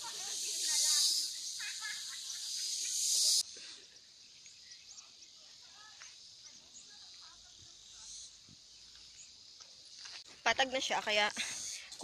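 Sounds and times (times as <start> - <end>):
faint insect drone: 0.0 - 12.0
high-pitched insect chorus: 0.0 - 12.0.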